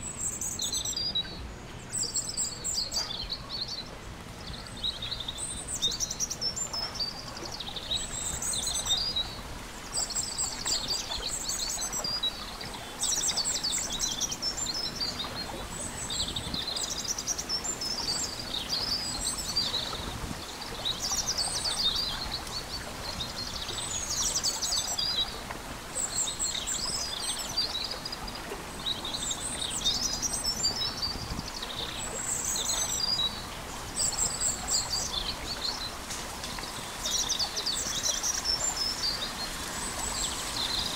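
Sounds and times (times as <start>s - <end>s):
faint background hiss: 0.0s - 40.9s
songbirds chirping: 0.0s - 40.9s.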